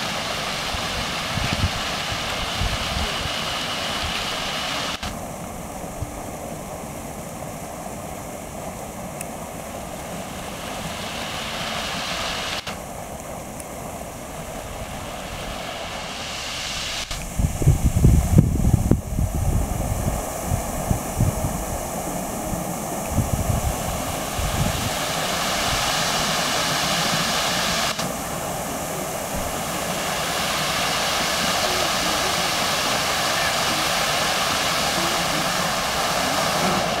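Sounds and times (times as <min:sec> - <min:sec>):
fountain water splashing: 0:00.0 - 0:37.0
low buffeting: 0:00.0 - 0:37.0.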